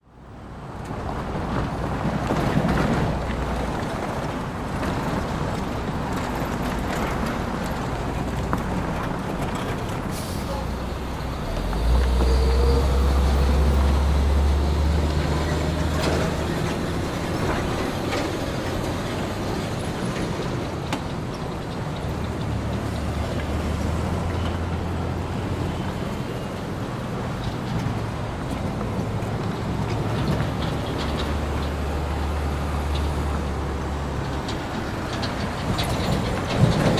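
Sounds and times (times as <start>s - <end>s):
heavy vehicle engine rumble: 0.0s - 36.9s
road traffic passing: 0.0s - 36.9s.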